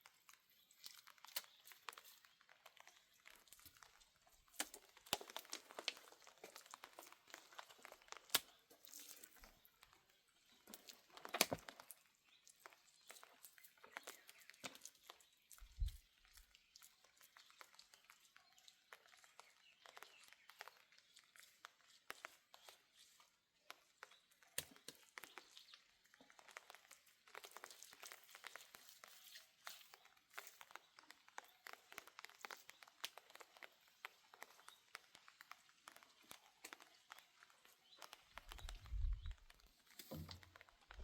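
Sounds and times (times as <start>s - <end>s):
rustling and crinkling handling: 0.0s - 41.0s.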